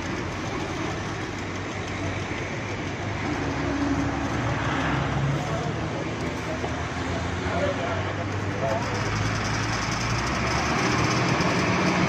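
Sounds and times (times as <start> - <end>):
heavy vehicle engine running: 0.0 - 12.0
road-side noise: 0.0 - 12.0.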